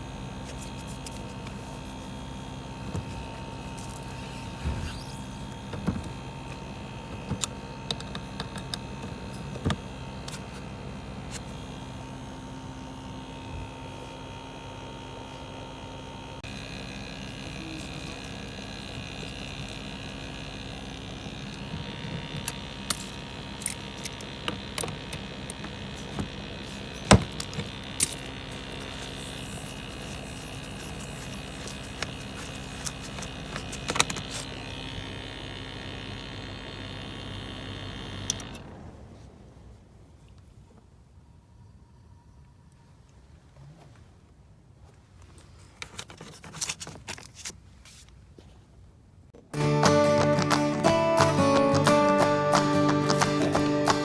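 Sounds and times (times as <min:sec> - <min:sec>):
machine hum with held tones: 0:00.0 - 0:43.4, 0:49.4 - 0:54.0.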